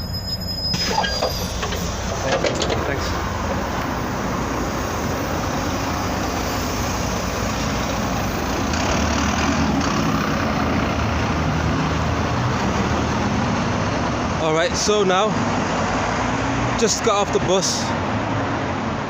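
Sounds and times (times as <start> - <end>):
bus engine running: 0.0 - 17.0
street traffic: 0.0 - 19.0.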